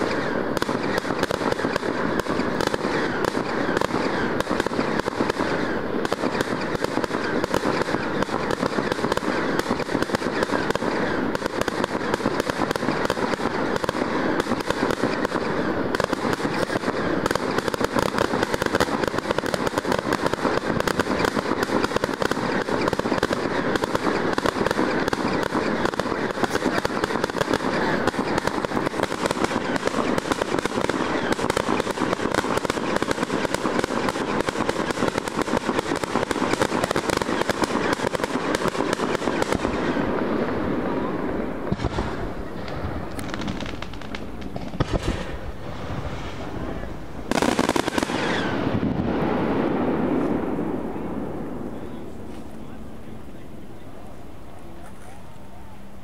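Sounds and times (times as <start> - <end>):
fireworks crackling and banging: 0.0 - 55.8.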